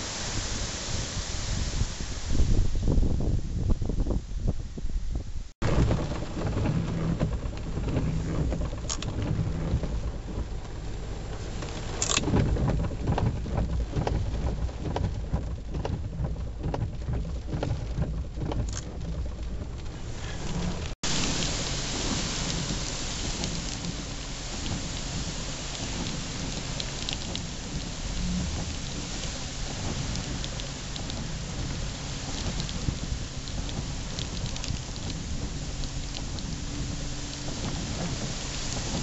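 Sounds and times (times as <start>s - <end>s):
heavy rain downpour: 0.0s - 4.0s, 5.6s - 39.0s
wind gusts buffeting microphone: 0.0s - 39.0s.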